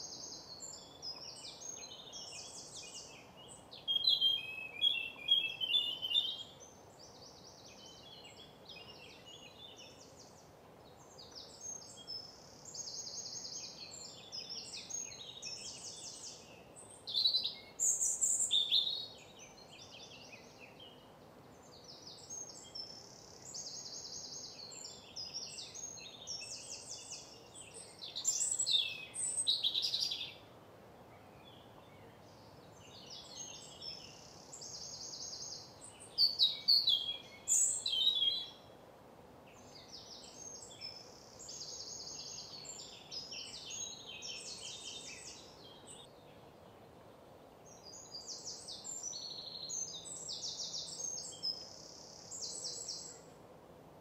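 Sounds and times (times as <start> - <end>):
low background hiss: 0.0 - 54.0.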